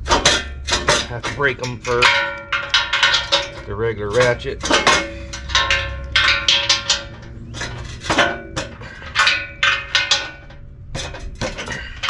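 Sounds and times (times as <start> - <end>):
tool clinking on steel: 0.0 - 12.0.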